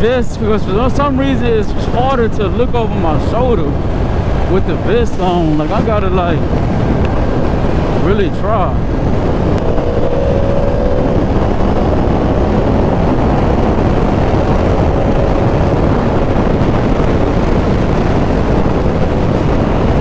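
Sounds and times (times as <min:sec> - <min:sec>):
wind rush over microphone: 0:00.0 - 0:20.0
faint motorcycle engine hum: 0:00.1 - 0:20.0.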